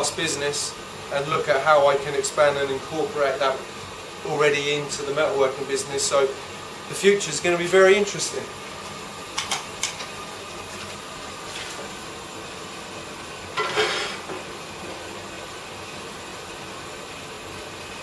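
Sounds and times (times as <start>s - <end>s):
furnace hissing: 0.0s - 18.0s.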